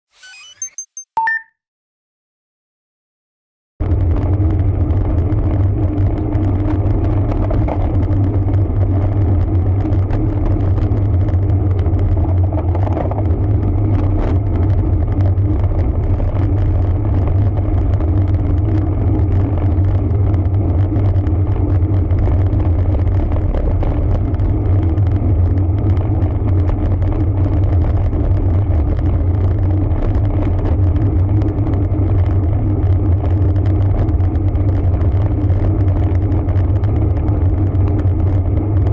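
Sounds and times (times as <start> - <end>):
bike tyre road noise: 3.8 - 38.9.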